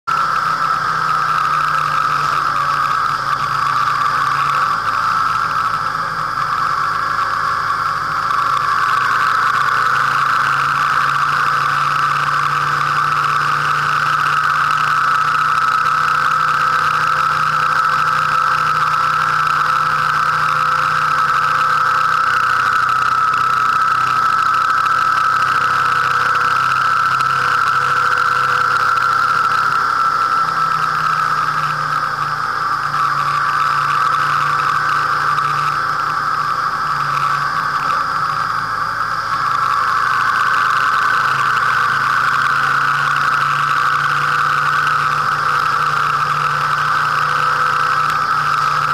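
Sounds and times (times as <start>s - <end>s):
motorcycle engine running: 0.0s - 48.9s
steady whine: 0.0s - 48.9s.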